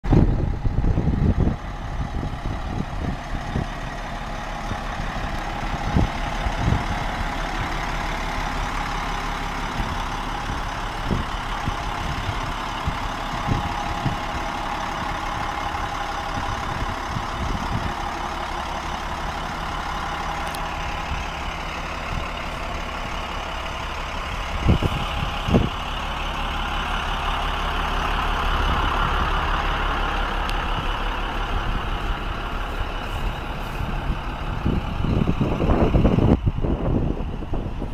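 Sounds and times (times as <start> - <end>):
truck engine running: 0.0 - 37.9.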